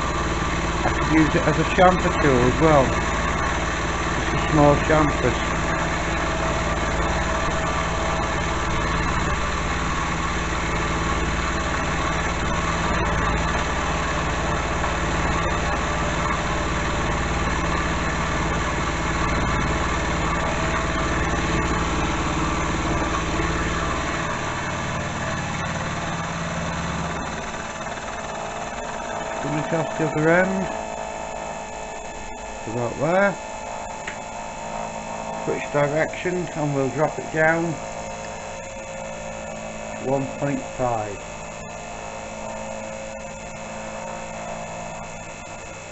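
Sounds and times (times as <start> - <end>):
deep low hum: 0.0 - 45.7
milling machine running: 0.0 - 45.9.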